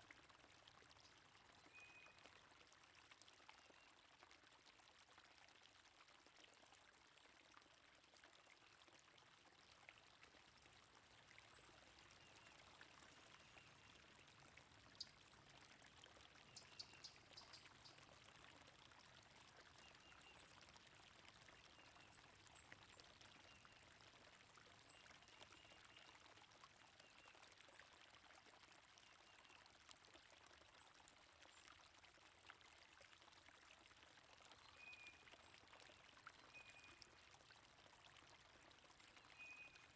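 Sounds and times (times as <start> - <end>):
faint stream flowing: 0.0 - 39.9.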